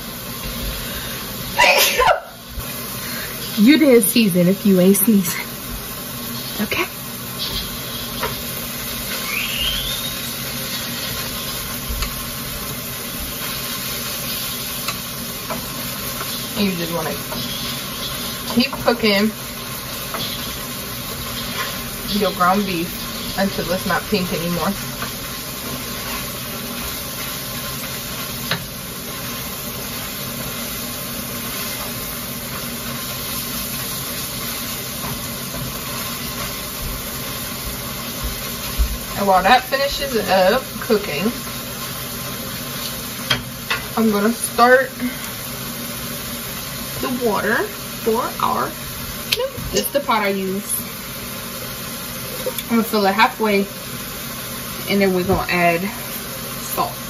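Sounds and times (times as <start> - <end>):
meat sizzling in a frying pan: 0.0 - 57.0.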